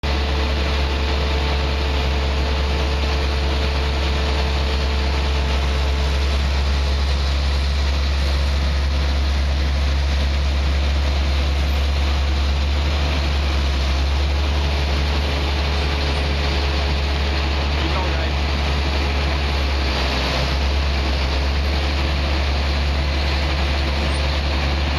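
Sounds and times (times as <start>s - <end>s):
heavy engine idling: 0.0s - 24.9s.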